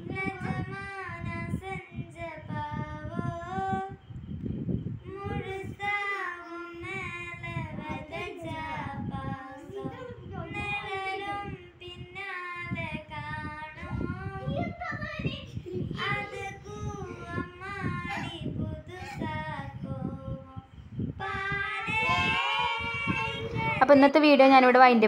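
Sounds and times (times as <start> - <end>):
child singing: 0.0 - 4.0, 5.0 - 23.8.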